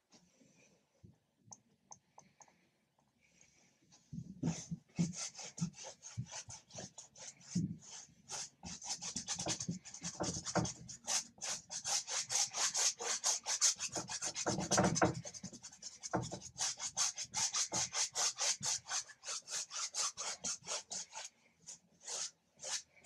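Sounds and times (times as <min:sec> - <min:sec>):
paintbrush scrubbing on canvas: 0:04.4 - 0:23.0.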